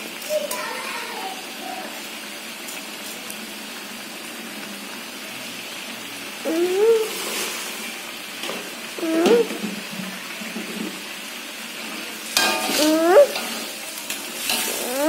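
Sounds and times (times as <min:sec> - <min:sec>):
spice paste sizzling in a wok: 0:00.0 - 0:15.0.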